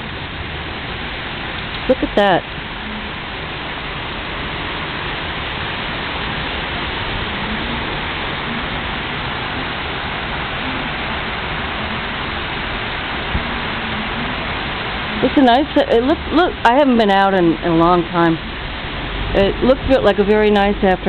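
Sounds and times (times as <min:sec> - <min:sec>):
hail and rain pelting down: 0:00.0 - 0:21.0.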